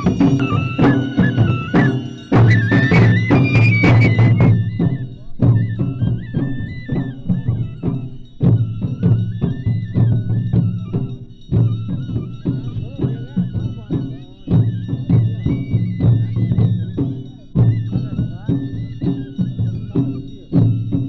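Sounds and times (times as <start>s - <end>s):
folk melody in held notes: 0.0s - 21.0s
steady drum beat: 0.0s - 21.0s.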